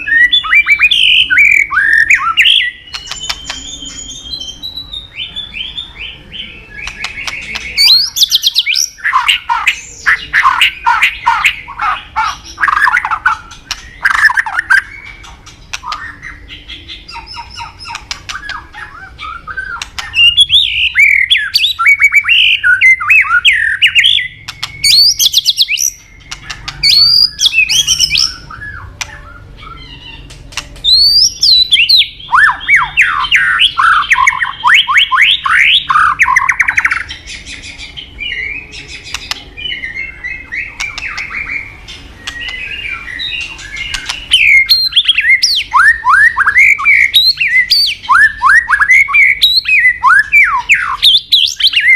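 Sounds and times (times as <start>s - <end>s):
bird singing whistled song: 0.0s - 51.9s.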